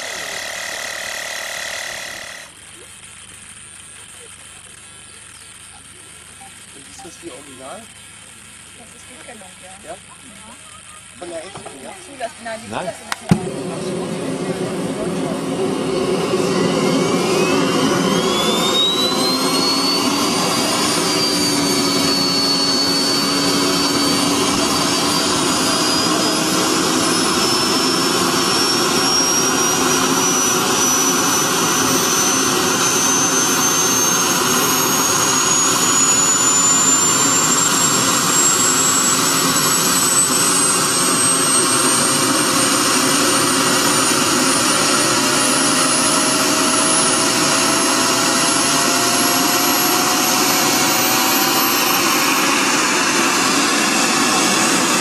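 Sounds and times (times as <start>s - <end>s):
jet engines whining: 0.0s - 55.0s
lower whine rising: 0.0s - 55.0s.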